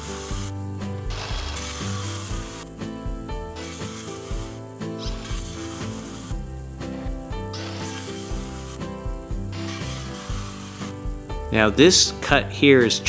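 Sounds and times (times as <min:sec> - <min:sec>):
instrumental music with bass line: 0:00.0 - 0:12.6.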